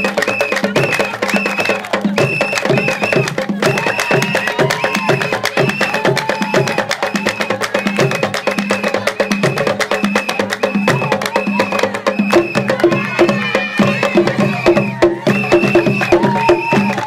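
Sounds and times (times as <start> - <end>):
rapid wooden percussion strikes: 0.0 - 17.0.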